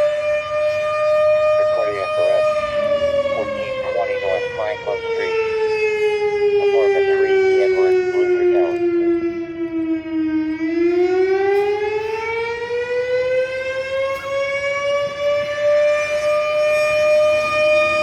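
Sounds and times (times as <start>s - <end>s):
fire siren winding up: 0.0s - 18.0s.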